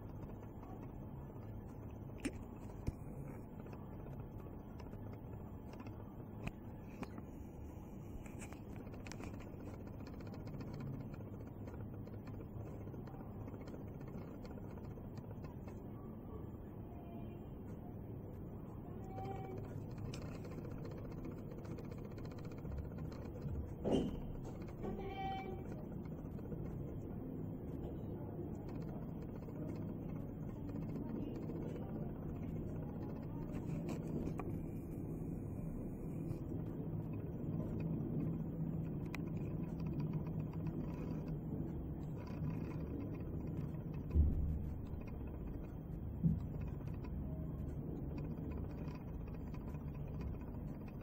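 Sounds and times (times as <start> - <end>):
aquarium equipment humming: 0.0 - 51.0.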